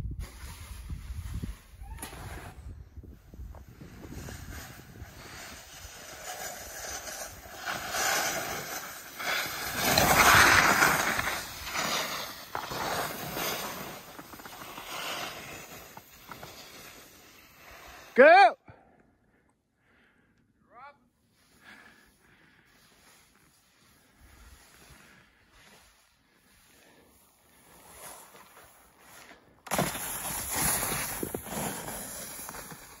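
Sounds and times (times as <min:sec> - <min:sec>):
snowboard scraping over snow: 0:00.1 - 0:18.2, 0:22.8 - 0:33.0.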